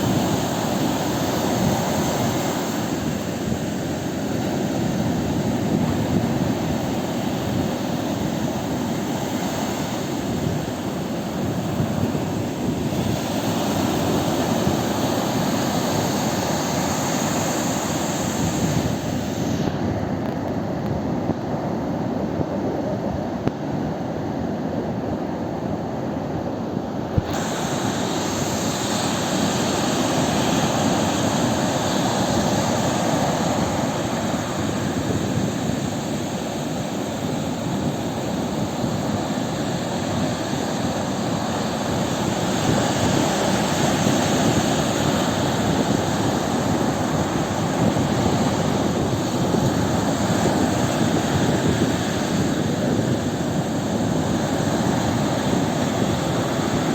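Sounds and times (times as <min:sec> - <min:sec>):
sea surf roaring: 0:00.0 - 0:56.9.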